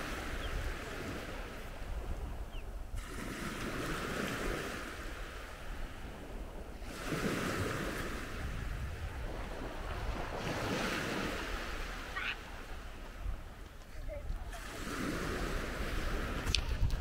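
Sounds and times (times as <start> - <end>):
surf washing onto beach: 0.0 - 17.0
wind rumbling on microphone: 0.0 - 17.0.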